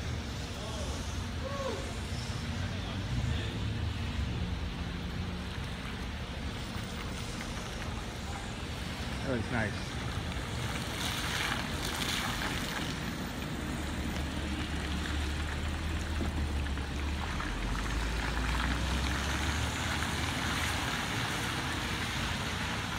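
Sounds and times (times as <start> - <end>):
tyres hissing on wet pavement: 0.0 - 22.9.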